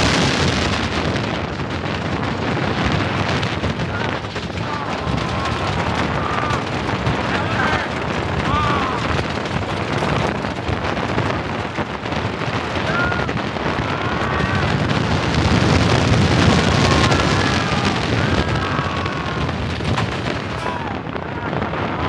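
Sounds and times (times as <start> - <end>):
roller coaster rumbling on wooden track: 0.0 - 22.0
wind noise on microphone: 0.0 - 22.0
riders screaming: 2.8 - 22.0.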